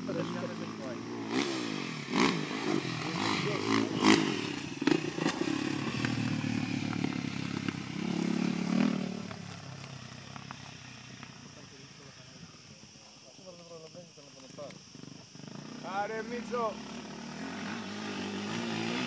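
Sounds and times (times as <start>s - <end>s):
dirt bike engine revving: 0.0s - 12.0s, 14.8s - 19.0s.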